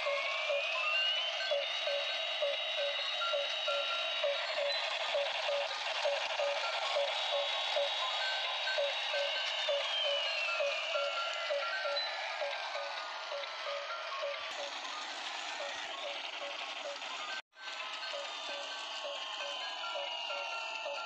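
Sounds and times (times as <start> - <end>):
high siren-like tone: 0.0 - 21.0
tinny beeping tune: 0.0 - 21.0.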